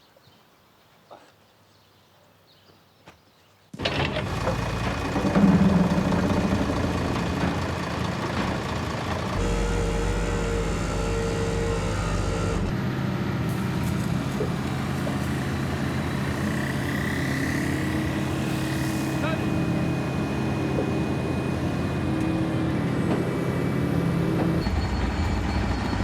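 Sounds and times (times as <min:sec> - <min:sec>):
vehicle engine running: 0:04.1 - 0:26.0.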